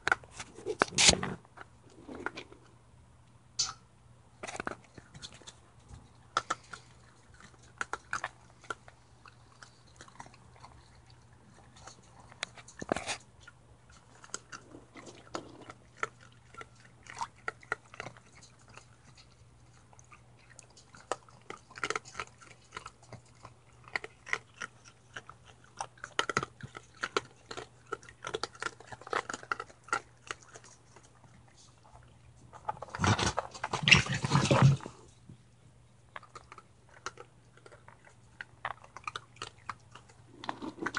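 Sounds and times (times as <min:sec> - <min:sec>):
raccoons crunching food: 0:00.0 - 0:02.8, 0:04.3 - 0:40.9.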